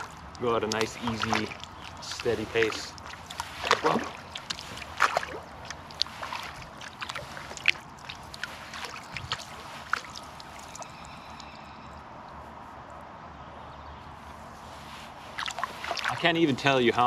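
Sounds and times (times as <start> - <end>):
paddle splashing water: 0.0 - 11.6, 14.6 - 17.0.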